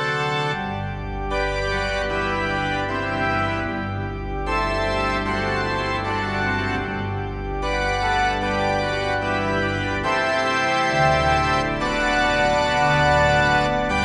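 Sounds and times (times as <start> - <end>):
organ playing chords: 0.0 - 14.0.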